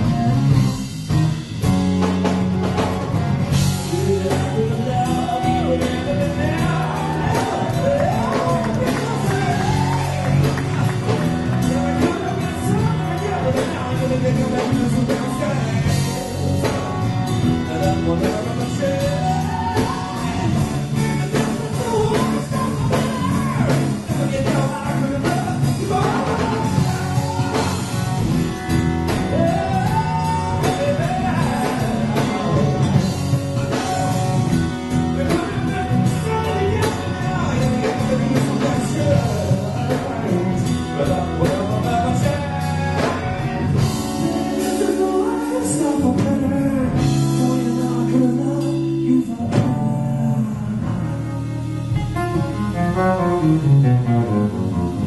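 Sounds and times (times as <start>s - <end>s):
electric bass: 0.0s - 55.0s
man singing: 2.7s - 55.0s.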